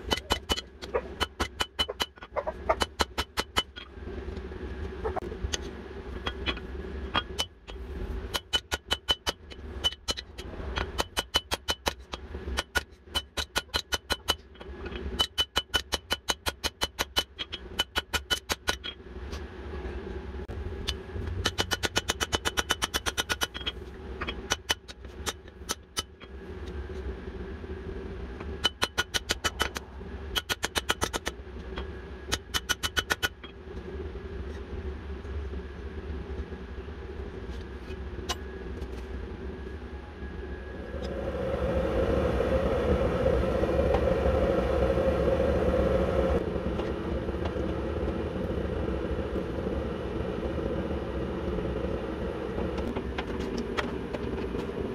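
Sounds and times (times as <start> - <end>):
steady low hum: 0.0 - 15.2, 18.7 - 54.9.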